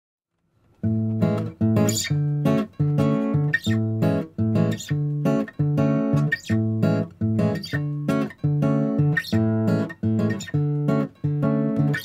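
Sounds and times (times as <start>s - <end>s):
acoustic guitar strumming: 0.8s - 12.0s.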